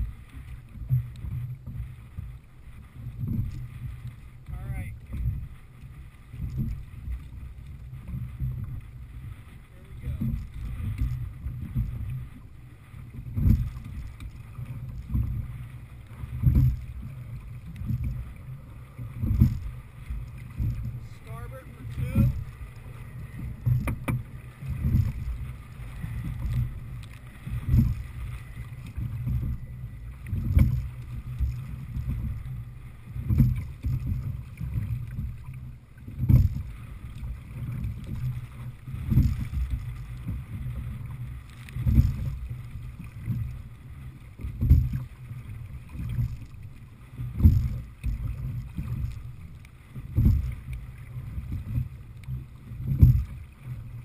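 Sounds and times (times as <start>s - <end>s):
water rushing past hull: 0.0s - 54.0s
wind rumble on microphone: 0.0s - 54.0s
rowing stroke thump: 3.0s - 53.9s.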